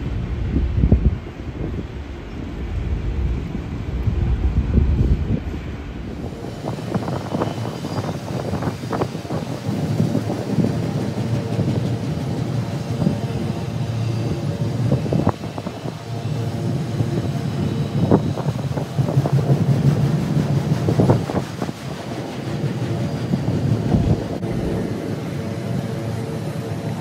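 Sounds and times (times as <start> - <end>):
freight train rumbling: 0.0 - 27.0.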